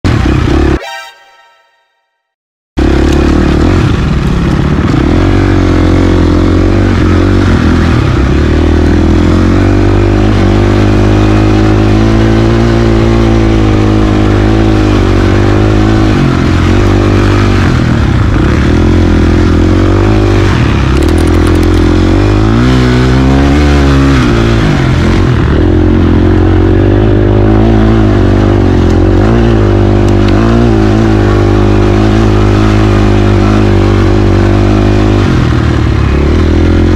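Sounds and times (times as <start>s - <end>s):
dirt bike engine revving: 2.8s - 36.9s.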